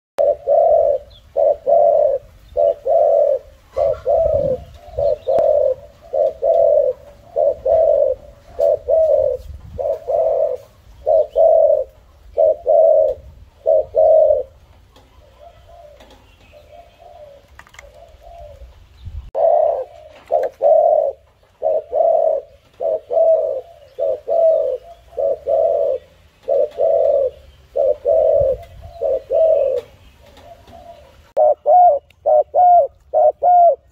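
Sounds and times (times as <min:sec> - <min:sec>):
dove cooing: 0:00.2 - 0:33.9.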